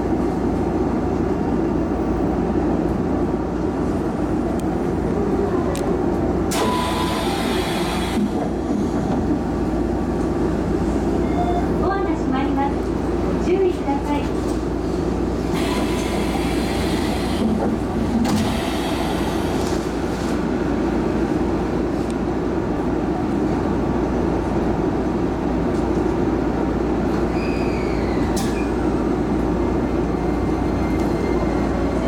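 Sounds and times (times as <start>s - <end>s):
electric train hum and rumble: 0.0s - 32.0s.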